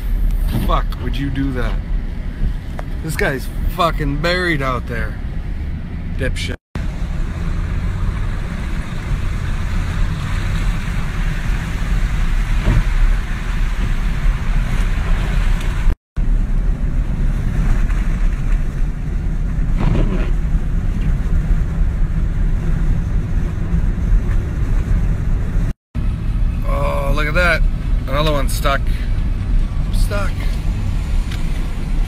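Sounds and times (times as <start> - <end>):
vehicle engine and tyres on snow: 0.0 - 32.0.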